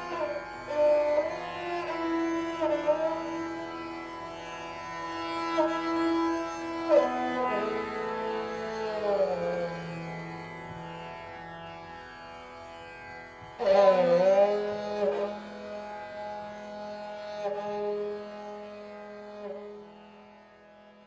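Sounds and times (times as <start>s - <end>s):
string instrument slow melody: 0.0s - 21.0s.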